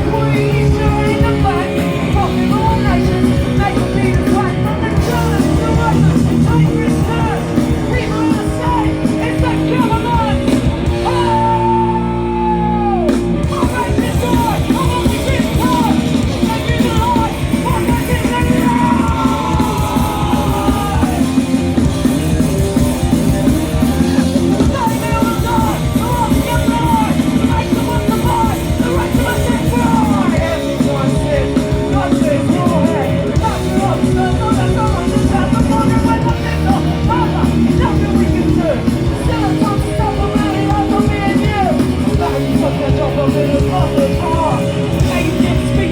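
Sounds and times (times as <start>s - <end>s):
fast drumming: 0.0s - 45.9s
guitars: 0.0s - 45.9s
shouted vocals: 0.0s - 45.9s.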